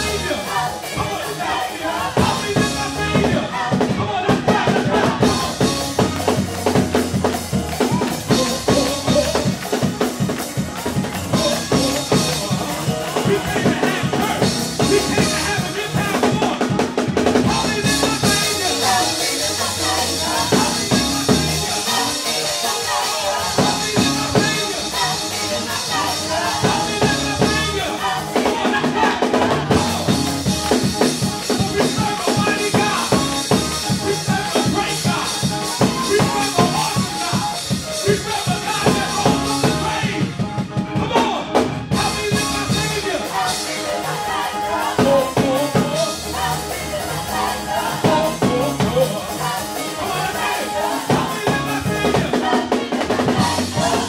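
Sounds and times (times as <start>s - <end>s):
choir singing: 0.0s - 54.0s
drum kit beat: 0.0s - 54.0s
keyboard: 0.0s - 54.0s.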